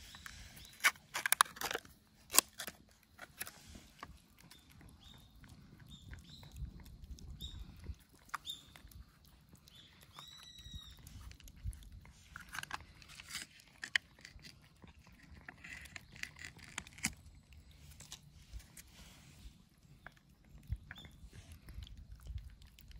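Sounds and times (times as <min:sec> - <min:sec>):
cats crunching dry kibble: 0:00.0 - 0:22.9.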